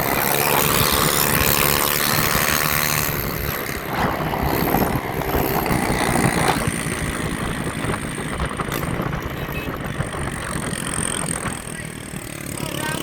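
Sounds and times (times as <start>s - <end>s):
continuous rumbling noise: 0.0s - 13.0s
vehicle engine running: 0.0s - 13.0s.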